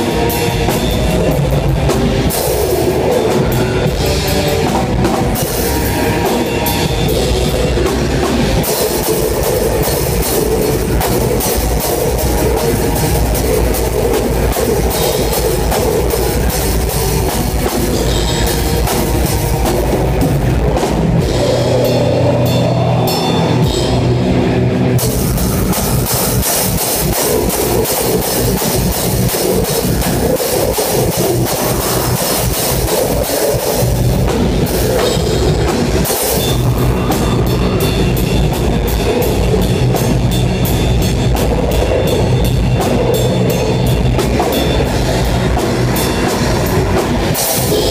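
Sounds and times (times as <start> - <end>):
drums: 0.0 - 47.9
live rock band: 0.0 - 47.9.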